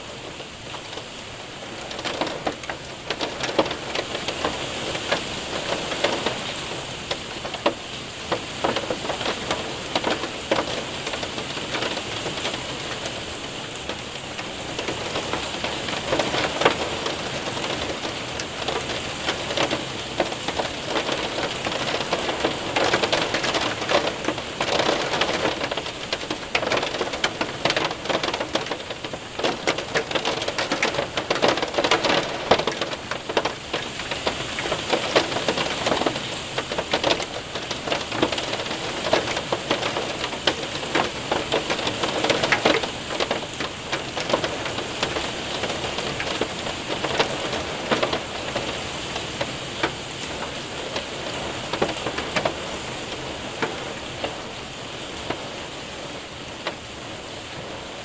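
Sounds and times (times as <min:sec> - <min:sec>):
rain on window and roof: 0:00.0 - 0:58.0
hail clattering: 0:00.7 - 0:55.5.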